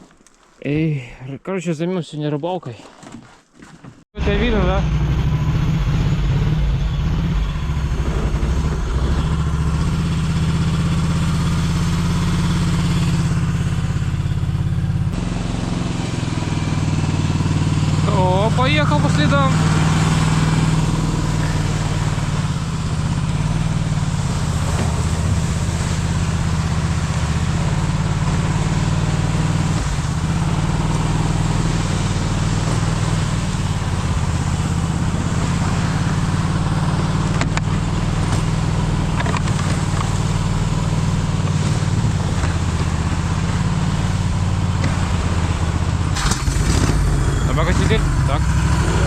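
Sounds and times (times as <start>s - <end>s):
snowmobile engine running: 4.2s - 49.0s.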